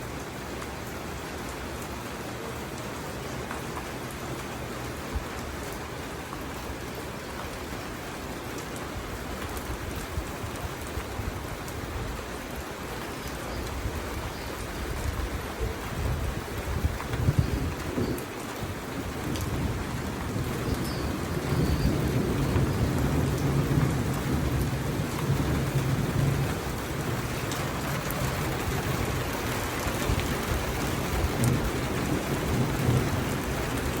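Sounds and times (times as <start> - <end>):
rain hissing and pattering: 0.0 - 34.0.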